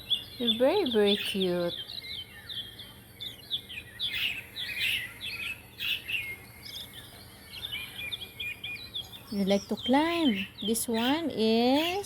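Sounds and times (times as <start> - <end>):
pet birds chirping: 0.0 - 12.0.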